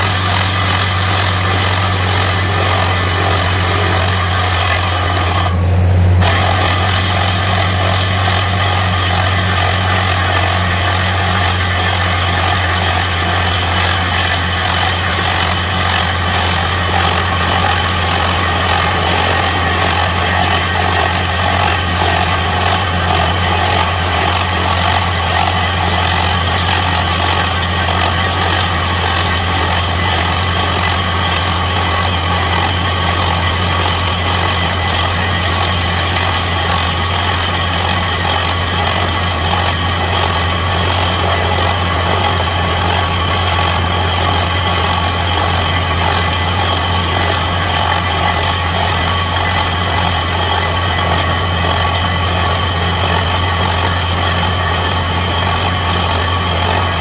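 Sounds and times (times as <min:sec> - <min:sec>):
drilling machine droning: 0:00.0 - 0:57.0.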